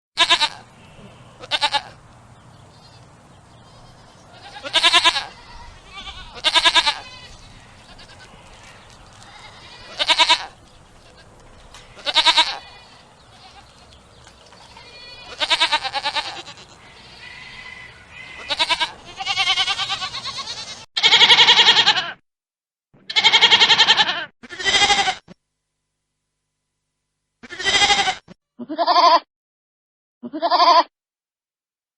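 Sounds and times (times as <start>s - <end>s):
goats bleating: 0.2s - 2.0s, 2.7s - 22.2s, 23.1s - 25.3s, 27.4s - 29.2s, 30.2s - 30.9s.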